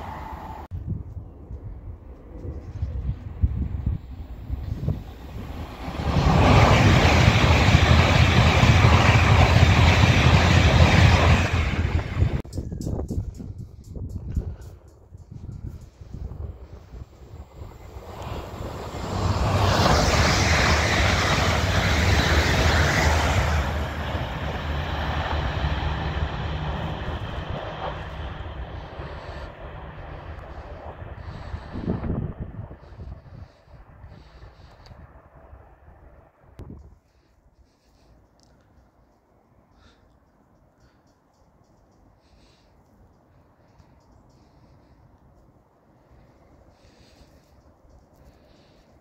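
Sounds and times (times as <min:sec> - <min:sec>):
train passing at speed: 0:00.0 - 0:49.0.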